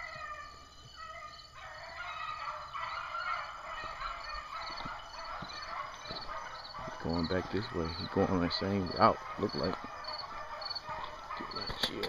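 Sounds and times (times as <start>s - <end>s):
dogs baying: 0.0s - 11.9s.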